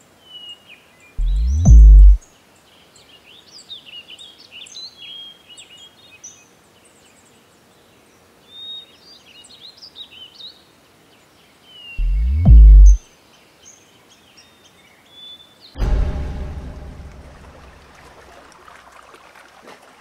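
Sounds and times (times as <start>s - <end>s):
faint outdoor hiss: 0.0s - 19.6s.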